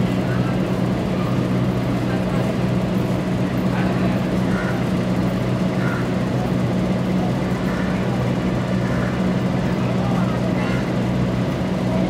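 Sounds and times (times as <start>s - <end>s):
faint voices: 0.0s - 12.0s
low mechanical hum: 0.0s - 12.0s.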